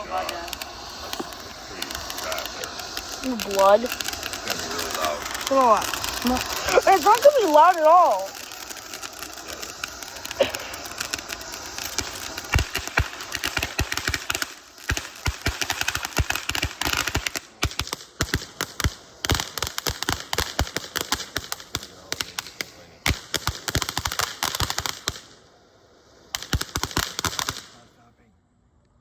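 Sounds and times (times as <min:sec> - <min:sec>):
fireworks popping and crackling: 0:00.0 - 0:28.0.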